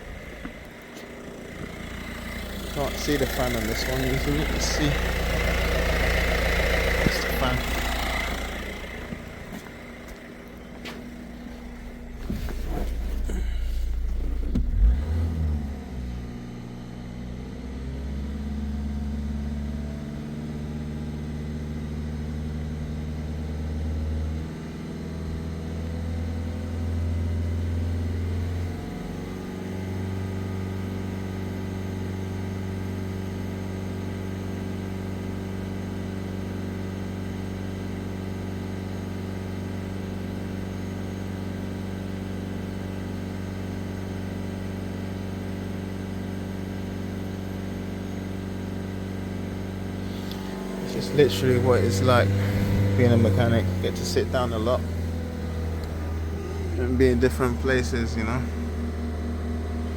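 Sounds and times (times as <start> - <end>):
diesel engine idling: 0.0 - 17.5, 18.4 - 59.9.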